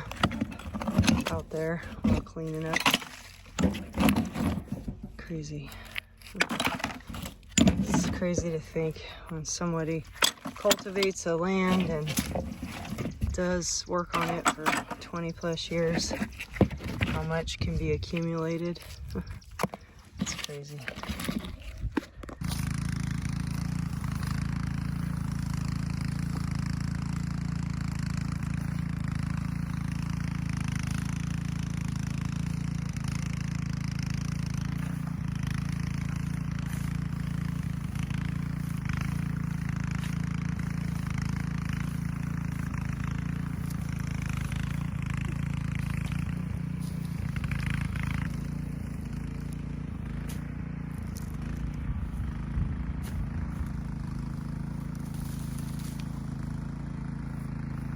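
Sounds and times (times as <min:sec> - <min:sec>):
rototiller engine running: 0:00.0 - 0:57.9.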